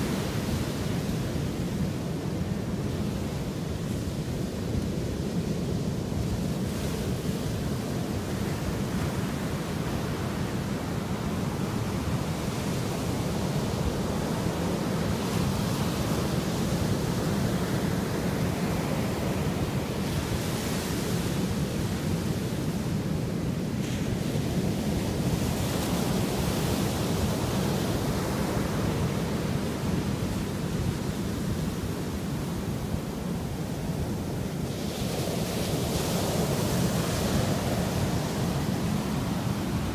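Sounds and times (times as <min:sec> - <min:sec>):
waves rumbling: 0:00.0 - 0:39.9.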